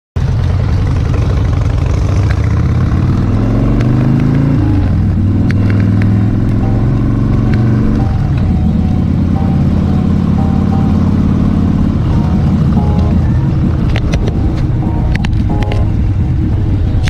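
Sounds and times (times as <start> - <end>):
motorcycle engine accelerating: 0.2 - 17.0.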